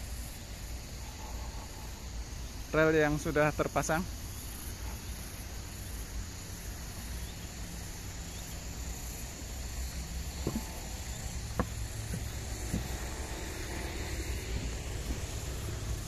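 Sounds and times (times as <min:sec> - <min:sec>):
high hiss: 0:00.0 - 0:16.0.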